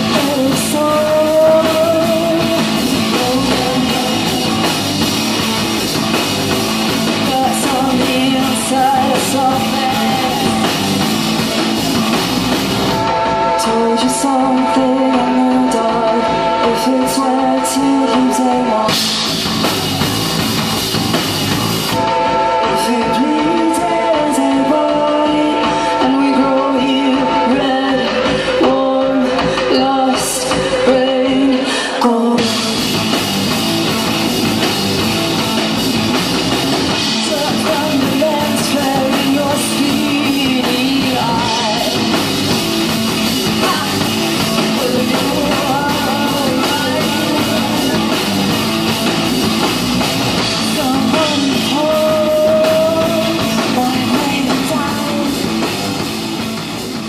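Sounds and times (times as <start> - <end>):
person singing: 0.0 - 5.4, 6.9 - 12.1, 12.9 - 19.4, 22.0 - 33.2, 36.9 - 48.7, 50.4 - 56.0
live band playing: 0.0 - 57.0.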